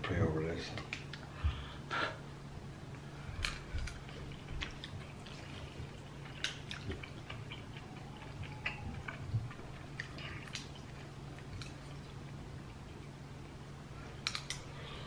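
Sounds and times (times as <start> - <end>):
steady low hum: 0.0 - 15.0
people chewing: 2.9 - 15.0.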